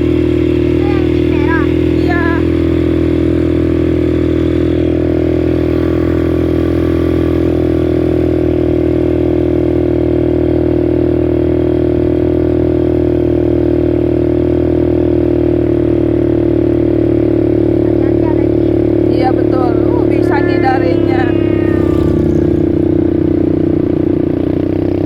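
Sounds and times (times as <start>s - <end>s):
atv engine running steadily: 0.0s - 25.0s.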